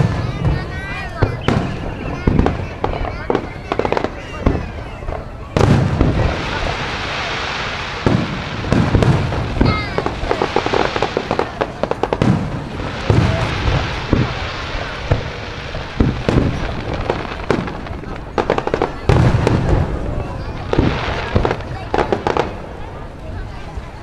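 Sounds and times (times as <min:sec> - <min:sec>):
firework booms with rumbling: 0:00.0 - 0:23.6
rapid firework crackling: 0:00.0 - 0:24.0.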